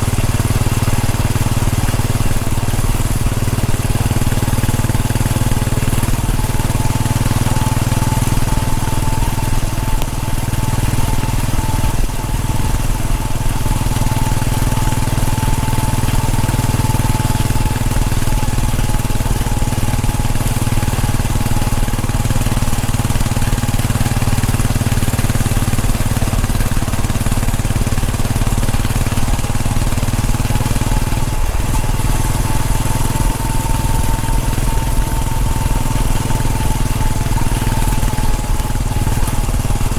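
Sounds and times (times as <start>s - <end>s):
motorcycle engine running: 0.0s - 39.9s
thin steady whine: 0.0s - 39.9s.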